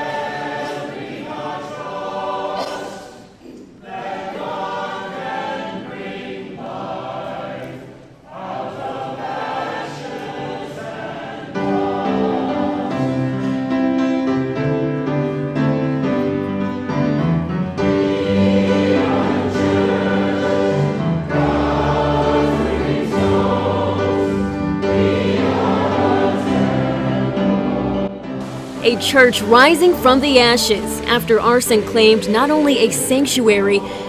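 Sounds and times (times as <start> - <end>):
choir singing held chords: 0.0 - 15.4, 17.7 - 34.0.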